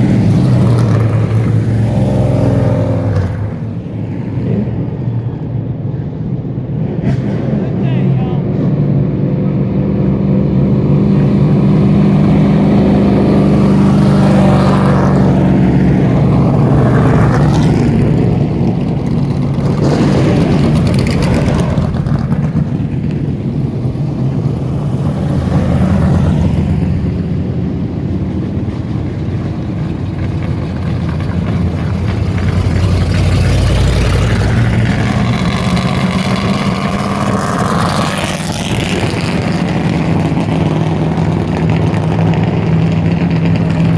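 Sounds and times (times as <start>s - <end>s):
race car engines revving: 0.0s - 43.9s.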